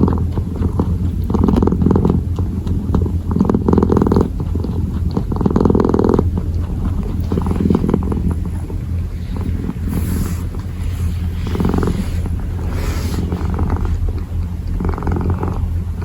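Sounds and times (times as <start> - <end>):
kitten purring: 0.0 - 16.0.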